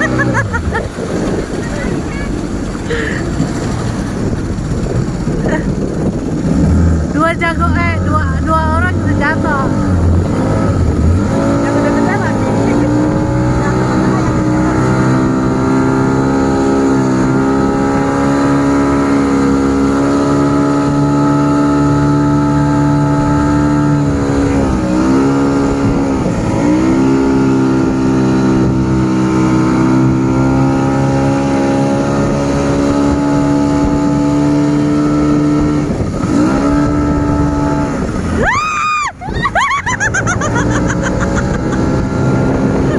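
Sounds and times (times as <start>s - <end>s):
motorboat engine running: 0.0s - 42.9s.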